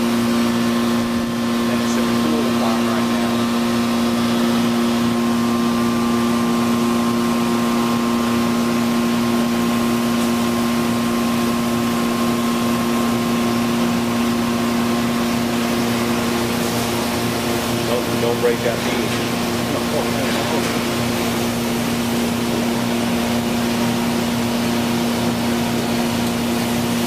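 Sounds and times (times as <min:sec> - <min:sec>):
industrial machinery humming: 0:00.0 - 0:27.0.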